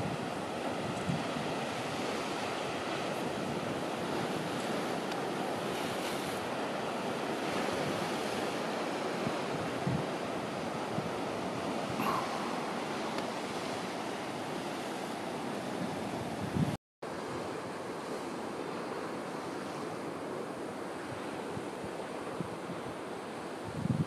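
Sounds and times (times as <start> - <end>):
wind buffeting microphone: 0.0 - 16.8, 21.0 - 24.0
steady wind: 0.0 - 24.0.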